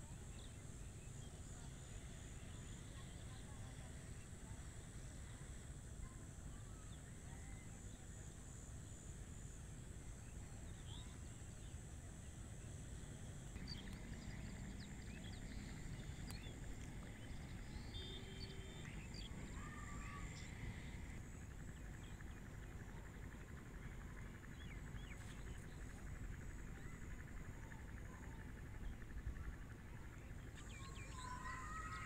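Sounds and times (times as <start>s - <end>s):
low background rumble: 0.0s - 32.0s.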